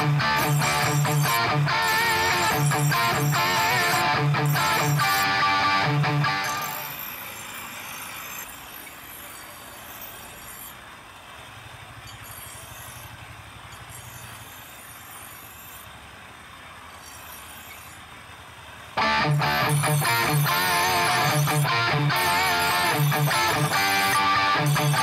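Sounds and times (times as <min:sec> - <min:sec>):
knife grinding on stone: 0:00.0 - 0:10.8, 0:12.0 - 0:15.9, 0:16.9 - 0:18.0, 0:19.0 - 0:25.0
road traffic: 0:00.0 - 0:25.0.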